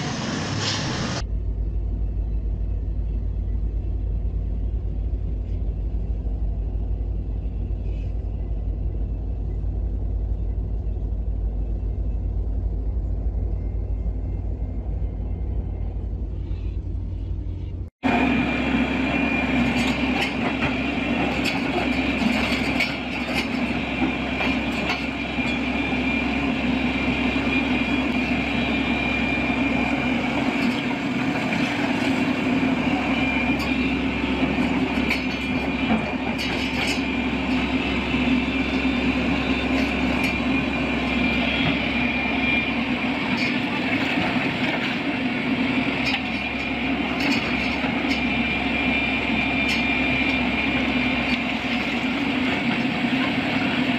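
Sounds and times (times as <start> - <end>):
heavy machinery rumbling: 0.0 - 53.9
high-pitched whine: 0.0 - 53.9.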